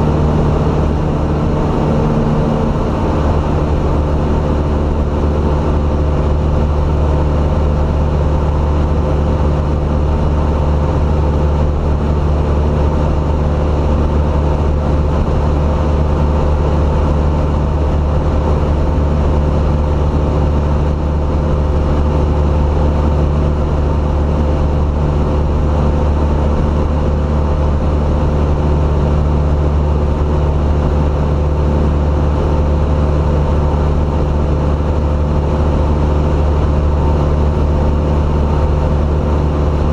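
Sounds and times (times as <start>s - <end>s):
aircraft propeller engine from cabin: 0.0s - 39.9s.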